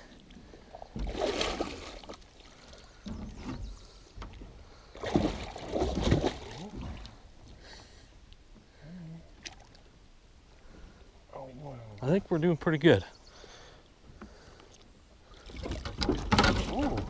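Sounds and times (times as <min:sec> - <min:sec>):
water splashing and sloshing: 0:00.0 - 0:08.7, 0:09.3 - 0:12.3, 0:14.1 - 0:17.0.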